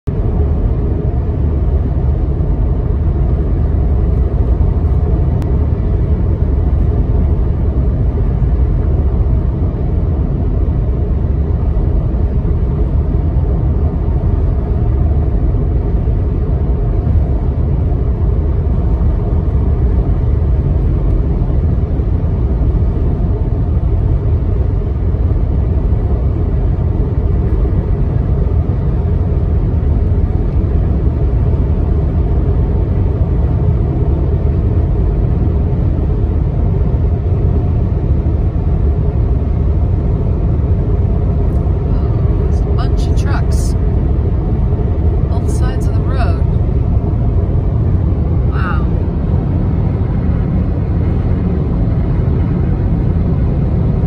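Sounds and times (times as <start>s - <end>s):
car driving on highway from inside: 0.1s - 54.0s.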